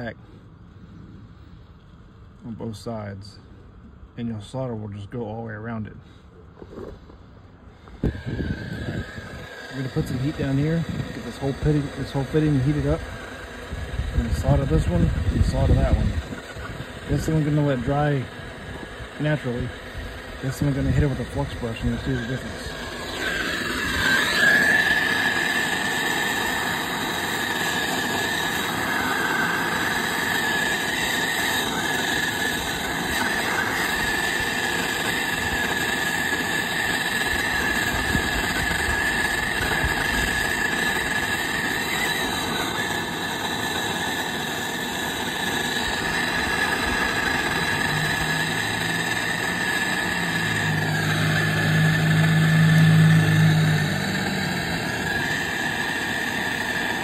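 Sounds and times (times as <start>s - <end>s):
low hum: 0.0s - 57.0s
gas torch flame hissing: 6.3s - 57.0s.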